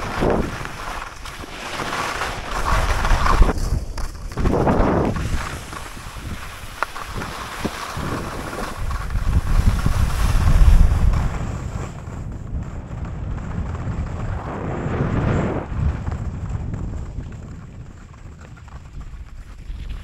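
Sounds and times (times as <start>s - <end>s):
wind buffeting microphone: 0.0s - 1.5s, 2.3s - 20.0s.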